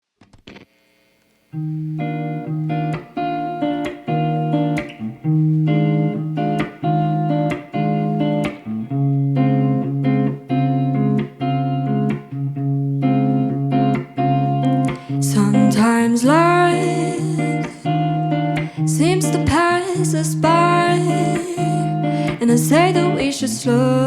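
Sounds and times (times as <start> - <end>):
guitar plucking chords: 1.5 - 24.0.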